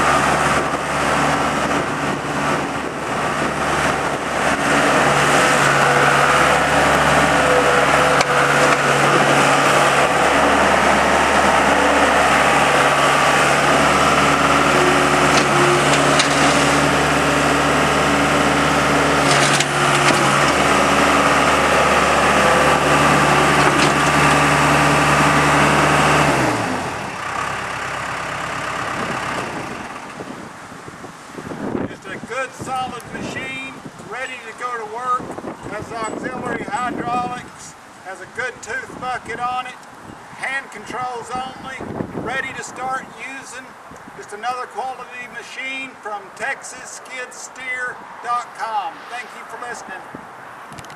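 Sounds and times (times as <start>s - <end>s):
diesel engine running hard: 0.0s - 50.2s.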